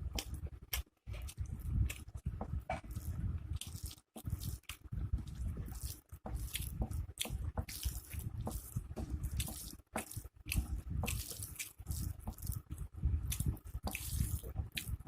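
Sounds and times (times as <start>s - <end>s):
crunching food: 0.0s - 15.0s
wet chewing and lip smacking: 0.0s - 15.0s.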